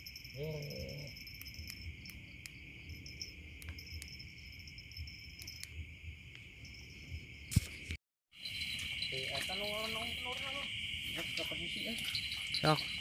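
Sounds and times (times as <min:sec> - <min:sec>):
higher insect chirping: 0:00.0 - 0:13.0
night insects trilling: 0:00.0 - 0:13.0.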